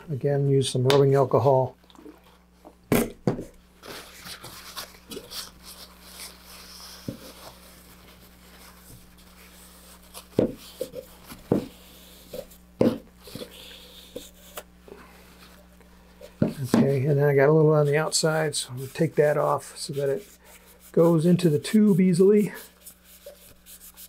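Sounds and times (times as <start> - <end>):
paper towel rubbing fiberglass: 3.8 - 15.7, 16.3 - 24.0.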